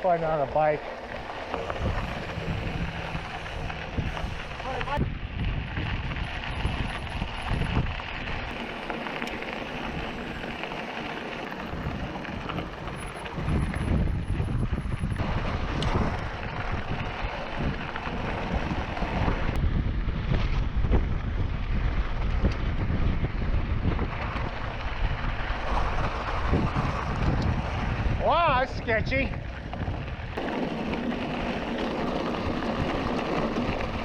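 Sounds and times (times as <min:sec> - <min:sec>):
bike rolling over trail: 0:00.0 - 0:34.0
wind buffeting microphone: 0:00.2 - 0:10.8, 0:11.4 - 0:34.0.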